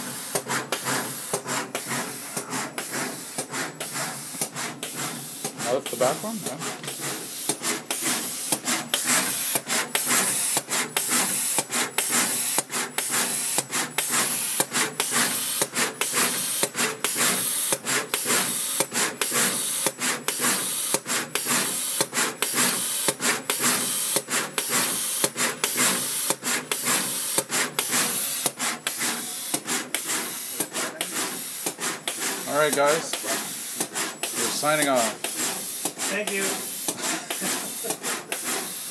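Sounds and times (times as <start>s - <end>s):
pick-and-place machine hissing: 0.0s - 38.9s.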